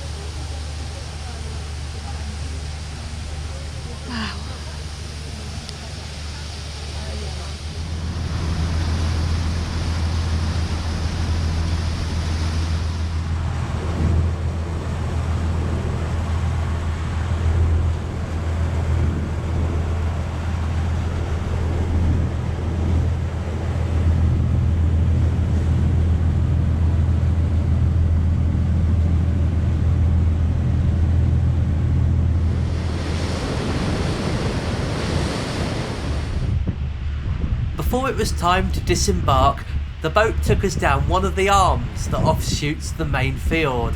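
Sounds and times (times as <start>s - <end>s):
boat engine droning: 0.0s - 35.3s, 37.8s - 43.9s.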